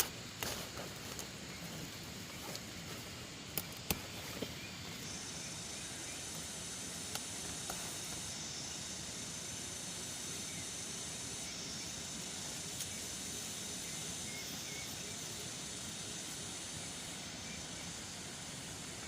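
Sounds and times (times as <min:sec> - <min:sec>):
outdoor hiss: 0:00.0 - 0:19.0.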